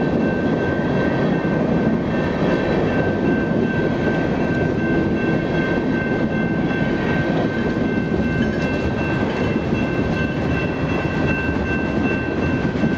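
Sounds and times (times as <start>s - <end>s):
train wheels rumbling on rails: 0.0s - 12.9s
high-pitched ring: 1.4s - 12.9s.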